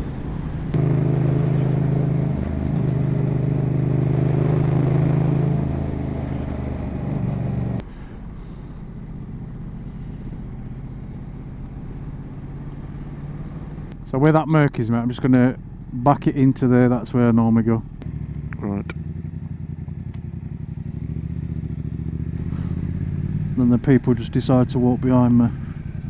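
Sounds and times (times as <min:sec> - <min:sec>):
motorcycle engine running: 0:00.0 - 0:14.2, 0:16.6 - 0:26.0
road and wind noise: 0:00.0 - 0:26.0.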